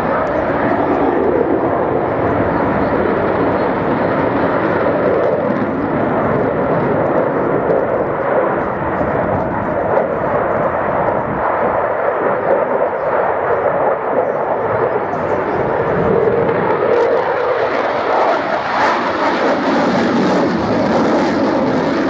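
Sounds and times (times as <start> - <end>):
aircraft engine noise: 0.0 - 22.0.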